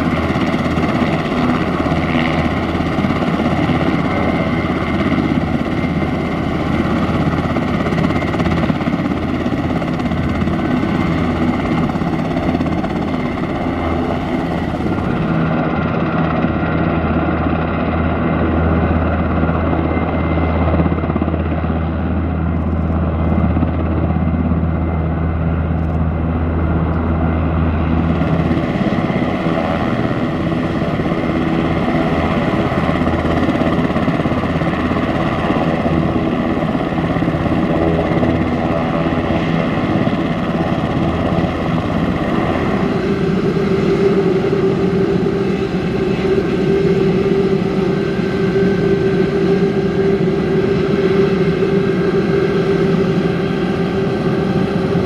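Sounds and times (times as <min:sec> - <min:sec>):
helicopter turbine and rotor din: 0:00.0 - 0:55.0.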